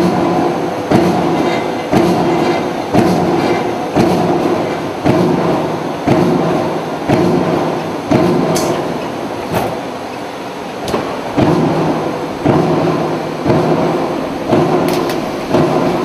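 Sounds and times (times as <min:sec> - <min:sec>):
press punching metal sheet: 0:00.0 - 0:09.9, 0:10.9 - 0:16.0
steady machine hum: 0:00.0 - 0:16.0.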